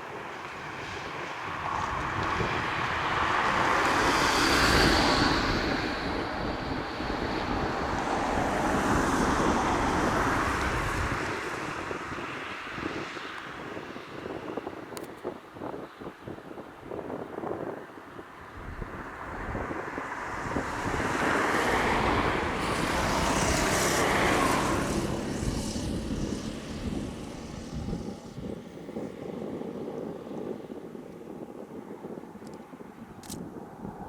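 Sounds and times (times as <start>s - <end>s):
jet airliner passing: 0.0s - 14.8s, 18.5s - 34.0s
wind buffeting microphone: 0.0s - 34.0s.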